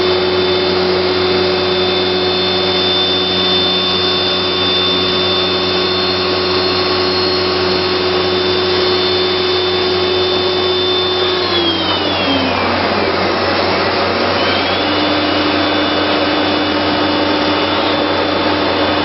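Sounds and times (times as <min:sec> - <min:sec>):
high-pitched spindle whine: 0:00.0 - 0:19.0.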